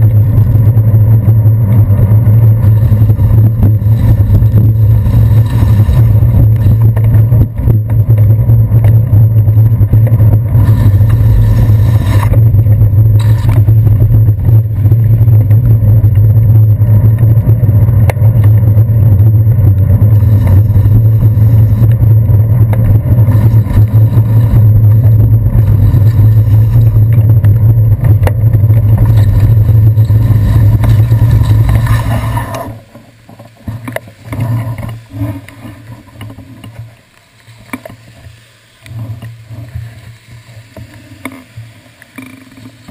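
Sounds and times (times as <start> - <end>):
wind and road rumble: 0.0 - 42.9.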